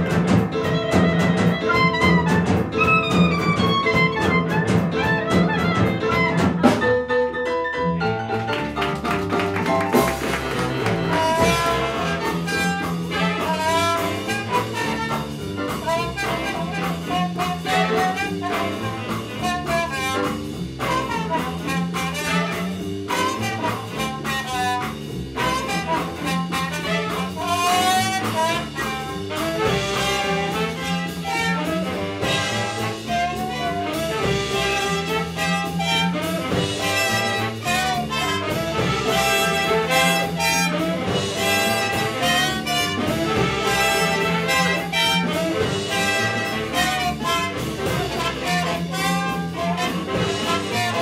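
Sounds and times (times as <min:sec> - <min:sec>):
jazz big band playing swing: 0:00.0 - 0:51.0.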